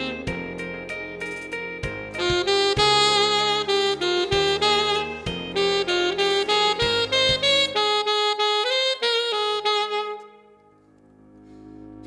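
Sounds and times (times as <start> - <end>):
alto saxophone melody: 0.0 - 11.8
backing track: 0.0 - 12.0.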